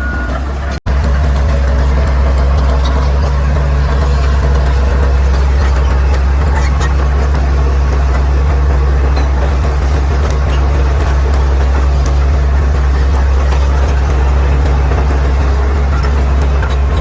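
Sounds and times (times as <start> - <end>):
bulldozer diesel engine drone: 0.0 - 17.0.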